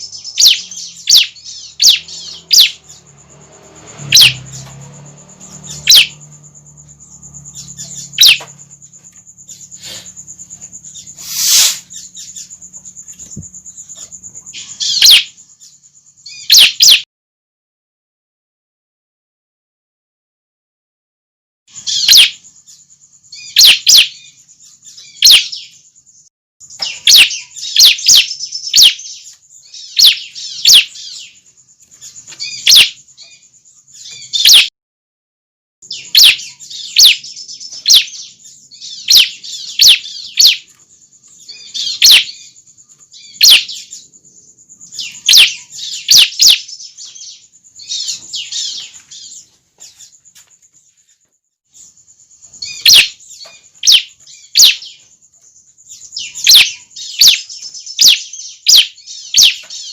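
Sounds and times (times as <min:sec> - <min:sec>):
birds chirping sharply: 0:00.0 - 0:17.1, 0:21.7 - 0:34.7, 0:35.8 - 0:59.9.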